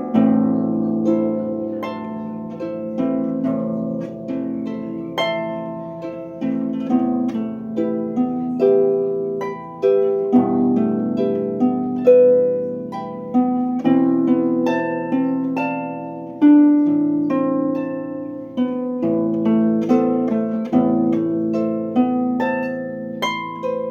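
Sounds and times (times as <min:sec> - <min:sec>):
harp plucked: 0:00.0 - 0:23.9.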